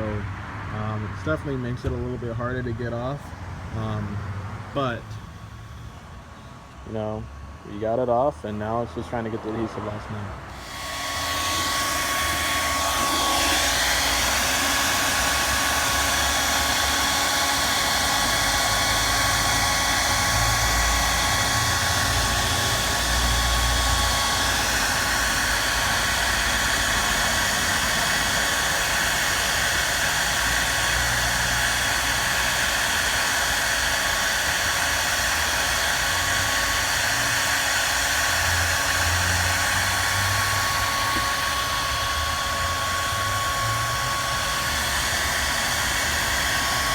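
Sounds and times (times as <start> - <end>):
heat gun blowing with whine: 0.0 - 46.9.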